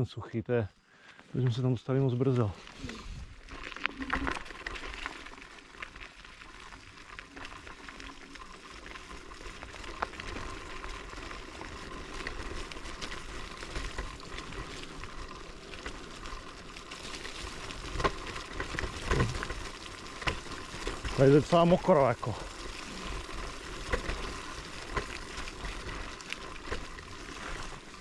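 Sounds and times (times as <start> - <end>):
tyres rolling on wet mud: 1.4 - 28.0.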